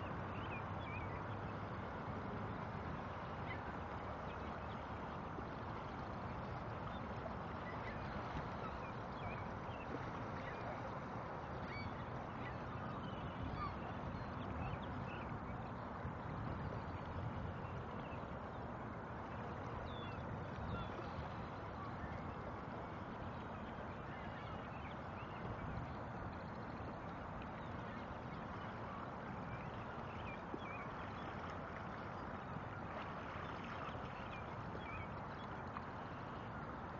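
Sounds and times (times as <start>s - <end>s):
waterbirds calling: 0.0s - 36.9s
wind: 0.0s - 36.9s.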